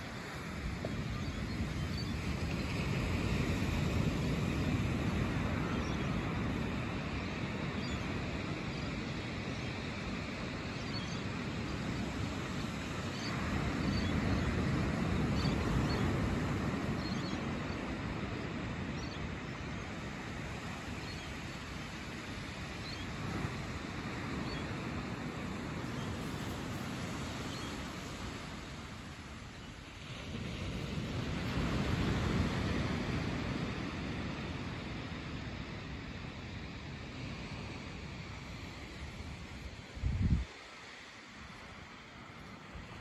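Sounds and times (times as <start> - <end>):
surf washing up a sandy beach: 0.0 - 43.0.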